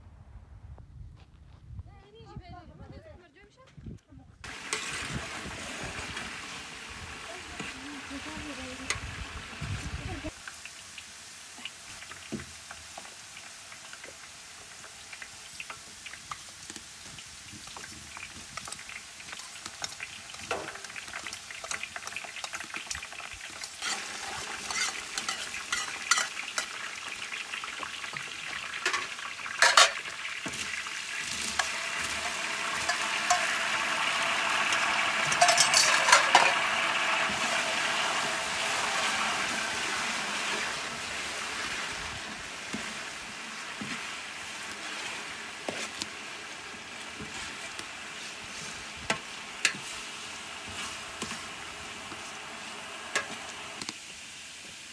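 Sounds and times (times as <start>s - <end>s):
noodles sizzling in oil: 4.4s - 54.9s.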